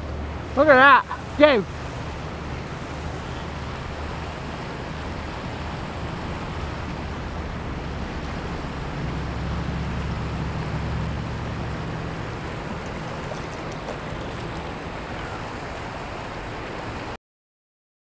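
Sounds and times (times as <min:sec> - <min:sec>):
river rushing over stones: 0:00.0 - 0:17.2.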